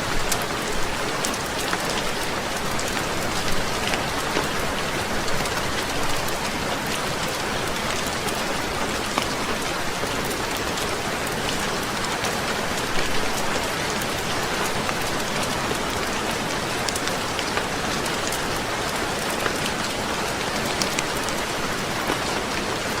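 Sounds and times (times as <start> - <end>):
rain on a roof: 0.0 - 23.0.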